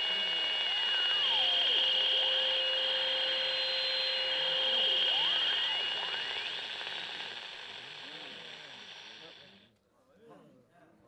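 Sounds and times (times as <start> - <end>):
telephone line static: 0.0 - 9.6.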